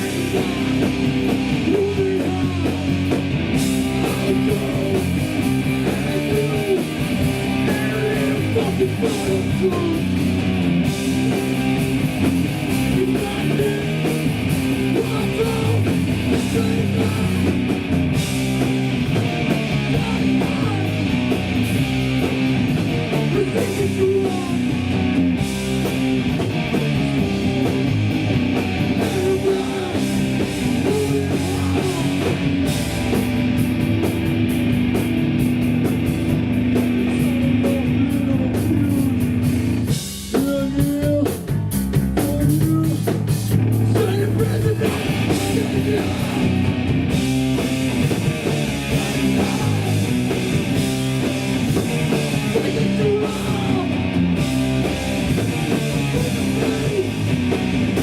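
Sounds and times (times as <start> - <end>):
bass guitar: 0.0 - 58.0
distorted electric guitars: 0.0 - 58.0
drum kit: 0.0 - 58.0.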